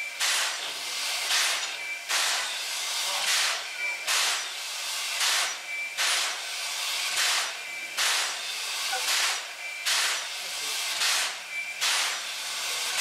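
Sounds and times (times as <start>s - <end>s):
steam air pump beating: 0.0s - 13.0s
steam locomotive puffs hissing: 0.0s - 13.0s.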